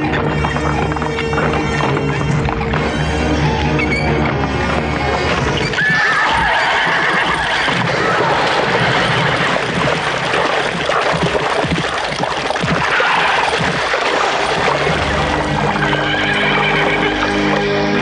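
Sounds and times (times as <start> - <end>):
horse whinnying: 0.0 - 10.0, 12.0 - 18.0
clatter of hoofbeats: 0.0 - 18.0.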